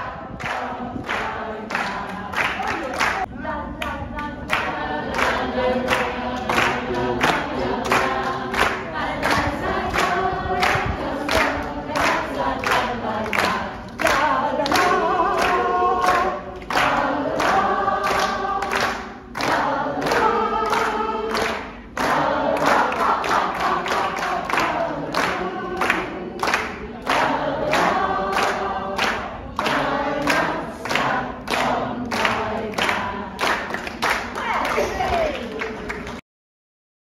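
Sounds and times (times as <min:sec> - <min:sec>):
people singing together: 0:00.0 - 0:34.9
people clapping in time: 0:00.0 - 0:36.2.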